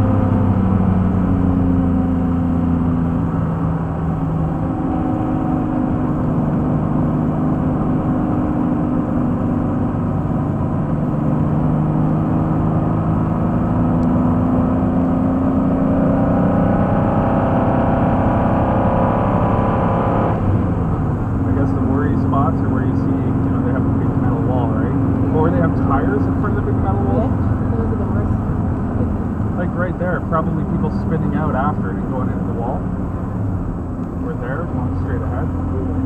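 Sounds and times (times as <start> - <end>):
car engine under load: 0.0 - 36.0
road and wind noise: 0.0 - 36.0.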